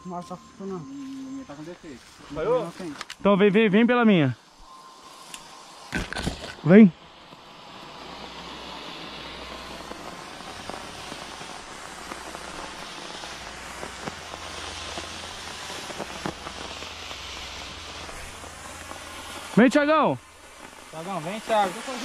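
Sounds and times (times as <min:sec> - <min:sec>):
smoke grenade crackling hiss: 0:00.0 - 0:22.0.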